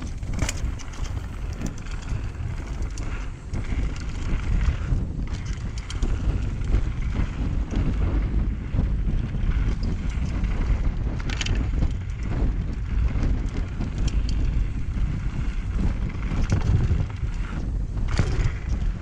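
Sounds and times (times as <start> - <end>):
mountain bike rolling over rocks: 0.0 - 19.0
wind buffeting microphone: 0.0 - 19.0.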